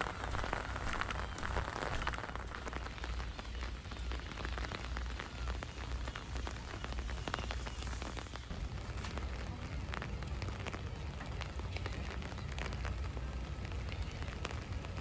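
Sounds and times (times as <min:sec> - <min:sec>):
rain on wet pavement: 0:00.0 - 0:15.0
rain pattering on umbrella: 0:00.0 - 0:15.0.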